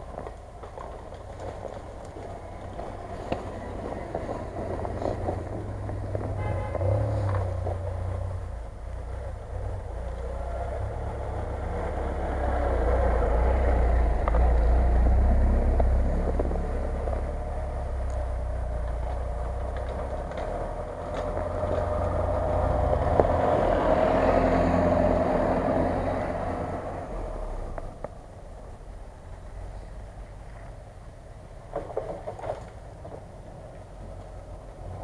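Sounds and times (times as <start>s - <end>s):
off-road vehicles driving past: 0.0s - 35.0s.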